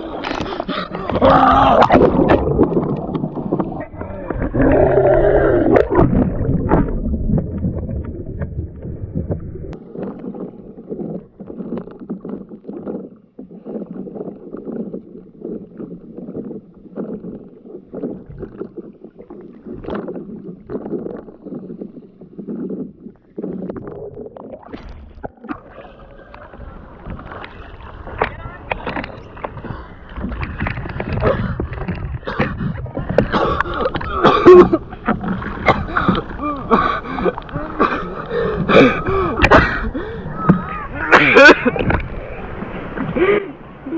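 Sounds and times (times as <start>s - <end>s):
low rumbling: 0.0s - 43.9s
water sloshing against hull: 0.0s - 43.9s
paddle strokes splashing: 5.7s - 43.9s.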